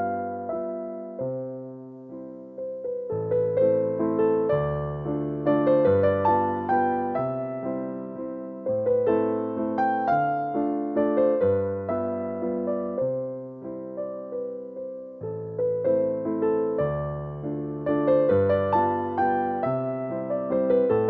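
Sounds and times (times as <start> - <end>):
slow gentle piano melody: 0.0 - 21.0.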